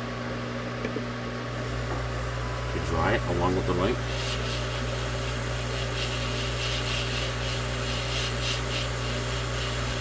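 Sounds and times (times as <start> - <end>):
hot-air tool blowing with hum: 1.4 - 10.0.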